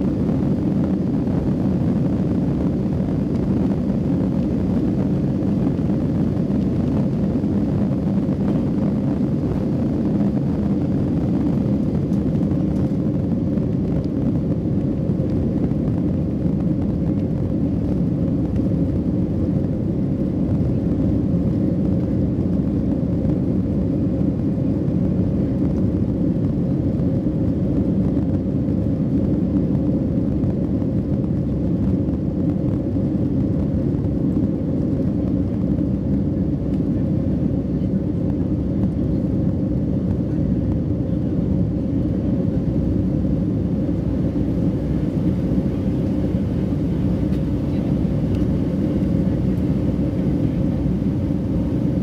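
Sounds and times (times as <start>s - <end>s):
jet engines rumbling in cabin: 0.0s - 52.0s.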